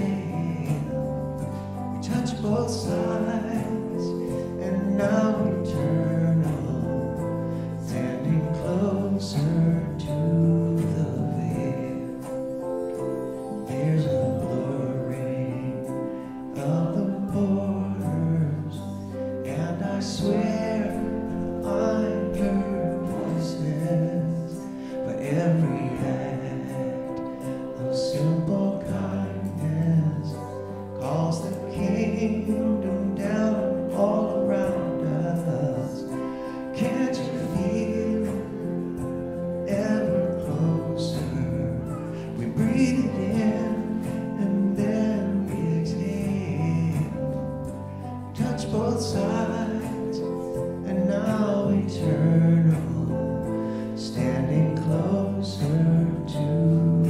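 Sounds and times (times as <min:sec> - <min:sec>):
instrumental accompaniment: 0:00.0 - 0:57.0
man singing into a microphone: 0:00.0 - 0:57.0.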